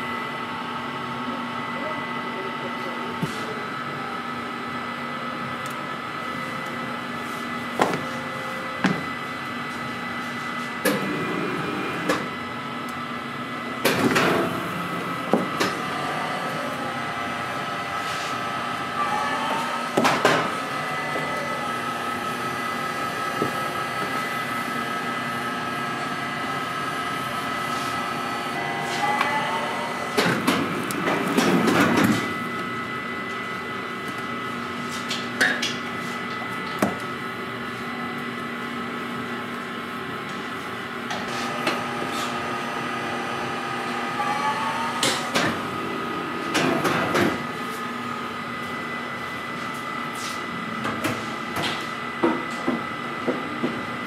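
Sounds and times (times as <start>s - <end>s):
machine motor and fans humming: 0.0s - 54.0s.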